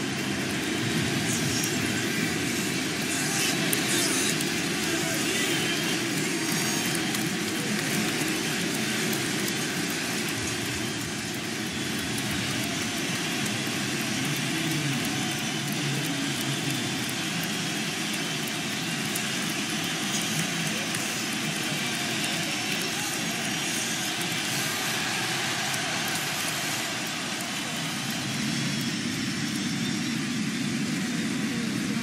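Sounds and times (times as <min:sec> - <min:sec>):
stadium crowd cheering: 0:00.0 - 0:32.0.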